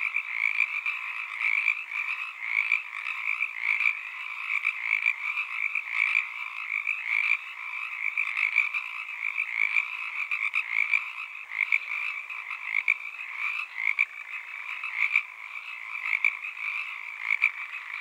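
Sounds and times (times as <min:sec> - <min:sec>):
chorus of frogs calling: 0:00.0 - 0:18.0.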